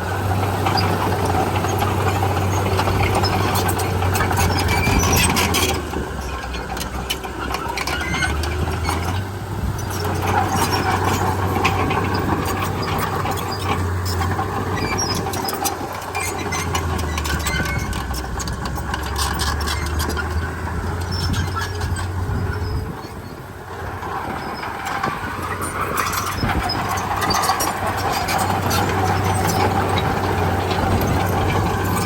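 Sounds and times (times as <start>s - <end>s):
bulldozer diesel engine running: 0.0s - 32.0s
tracks squealing and clanking: 0.0s - 32.0s.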